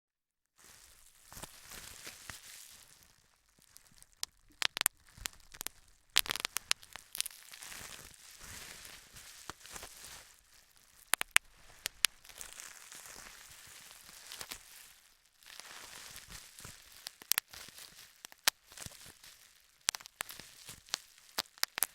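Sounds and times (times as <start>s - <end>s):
bubble wrap popping: 0.6s - 21.9s
plastic crinkling: 0.6s - 21.9s.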